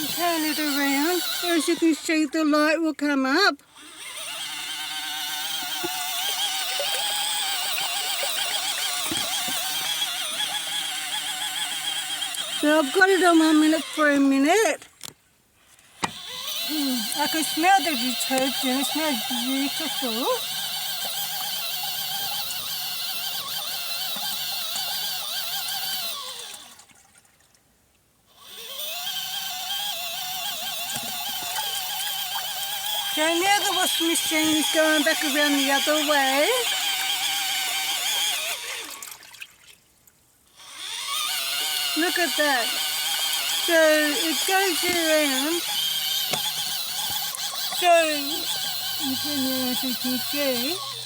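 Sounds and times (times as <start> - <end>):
washing machine motor whine: 0.0 - 14.8, 16.0 - 26.8, 28.4 - 39.2, 40.6 - 51.0
churning water: 0.0 - 15.1, 15.9 - 27.6, 28.4 - 39.9, 40.6 - 51.0.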